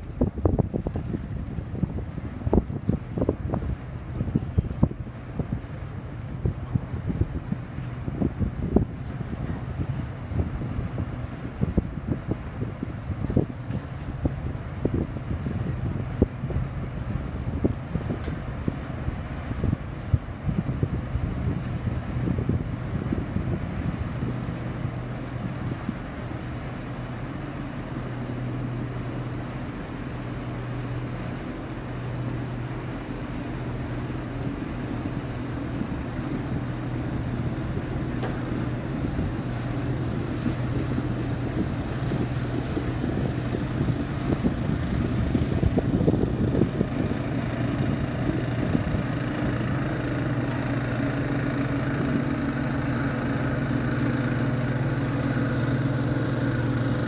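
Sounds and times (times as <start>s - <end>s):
boat engine running close by: 0.0s - 57.0s
ship engine drone: 0.0s - 57.0s.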